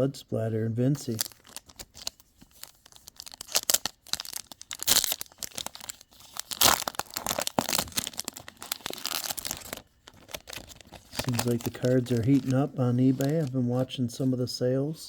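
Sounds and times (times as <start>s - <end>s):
wrapper ripping: 1.1s - 13.6s
wrapper rustling: 1.1s - 13.8s.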